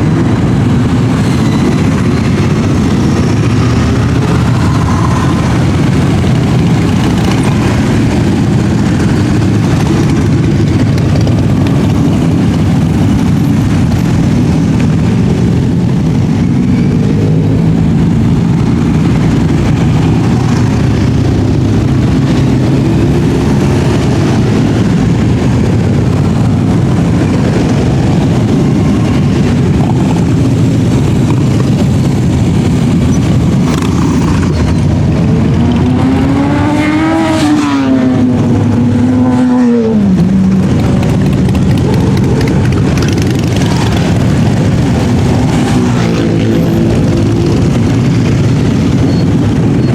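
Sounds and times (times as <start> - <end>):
motorcycle engine revving: 0.0 - 49.9
motorcycle engines rumbling: 0.0 - 49.9.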